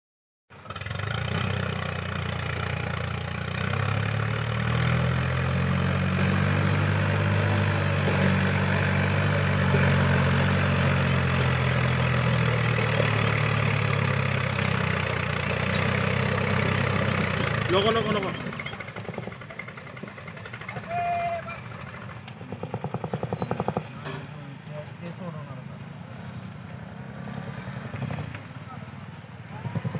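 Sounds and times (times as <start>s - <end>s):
tractor diesel engine running: 0.5s - 26.5s.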